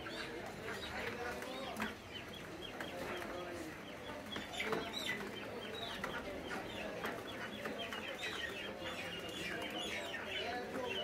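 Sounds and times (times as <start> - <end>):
poultry clucking and chirping: 0.0 - 11.0.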